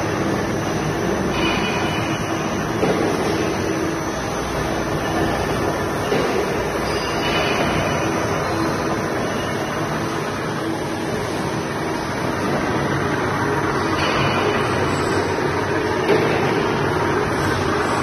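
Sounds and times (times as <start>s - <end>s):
gearbox mechanical drone: 0.0s - 18.0s.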